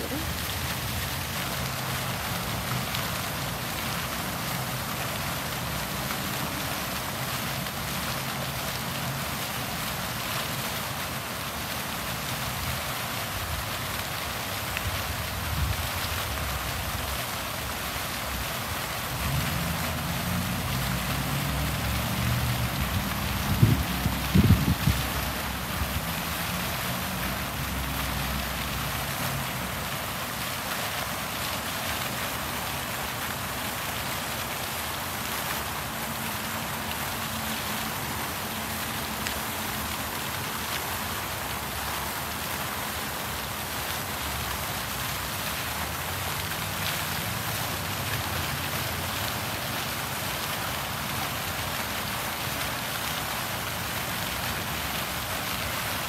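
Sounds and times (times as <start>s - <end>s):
fountain splashing into pool: 0.0s - 56.0s.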